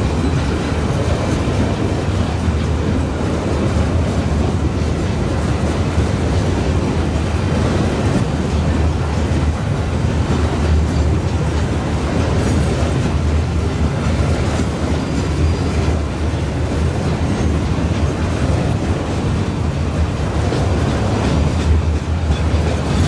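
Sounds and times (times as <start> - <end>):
clatter over rail joints: 0.0 - 23.0
train wagons rumbling past: 0.0 - 23.0.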